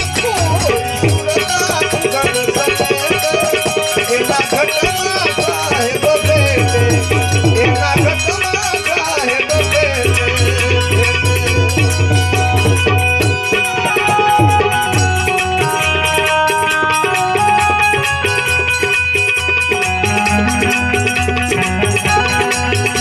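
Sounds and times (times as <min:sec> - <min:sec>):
fast rattling percussion: 0:00.0 - 0:23.0
wavering devotional melody: 0:00.0 - 0:23.0.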